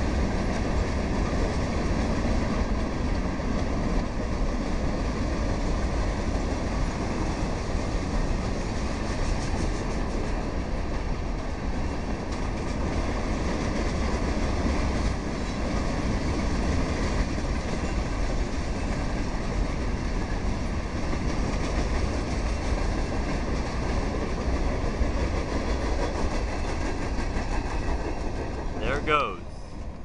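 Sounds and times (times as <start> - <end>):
steel wheels running on rail: 0.0 - 30.0.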